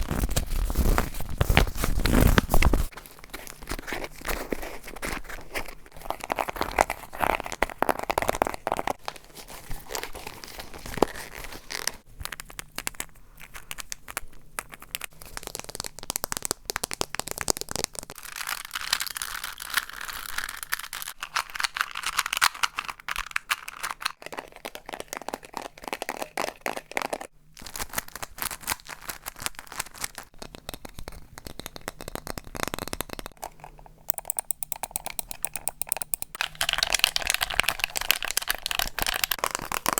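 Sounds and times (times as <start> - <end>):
crinkling and crumpling: 0.0 - 30.5, 36.4 - 39.9
crackly handling noise: 0.0 - 39.9.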